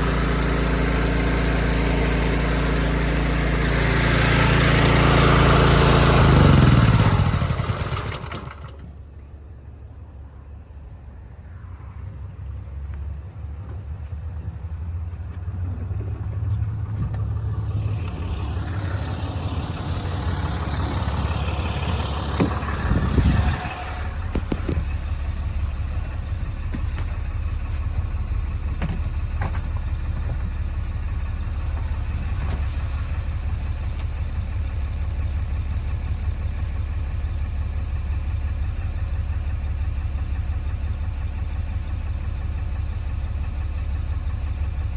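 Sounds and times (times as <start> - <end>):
engine running: 0.0 - 10.2, 13.2 - 44.9.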